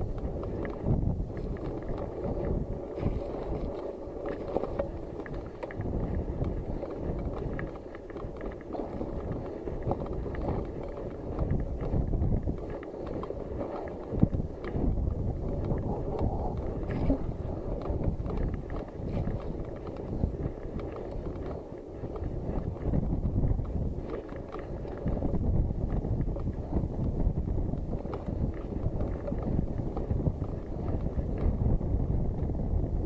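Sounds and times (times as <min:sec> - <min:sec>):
bike tyres churning through mud: 0:00.0 - 0:31.7
bike rattling over bumps: 0:00.0 - 0:33.0
wind buffeting microphone: 0:00.0 - 0:33.0.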